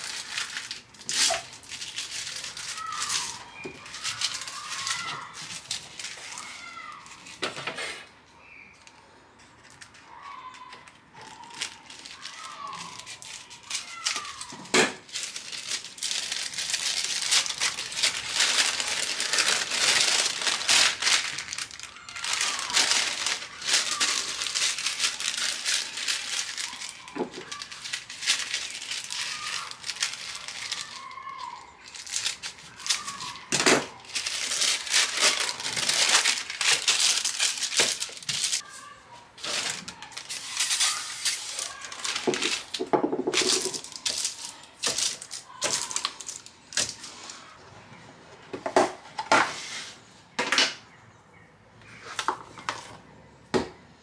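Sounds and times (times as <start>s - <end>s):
baking paper rustling and crinkling: 0.0s - 50.2s, 51.8s - 53.1s.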